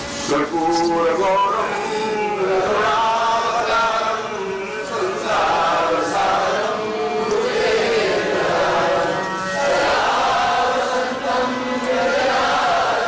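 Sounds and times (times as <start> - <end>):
voices chanting a hymn in unison: 0.2 - 13.0.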